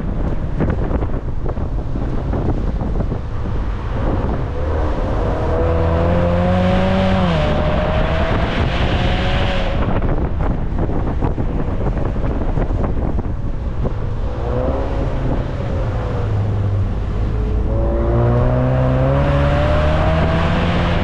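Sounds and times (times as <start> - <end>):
car engine accelerating: 0.0 - 21.0
road rumble: 0.0 - 21.0
wind buffeting: 0.0 - 21.0.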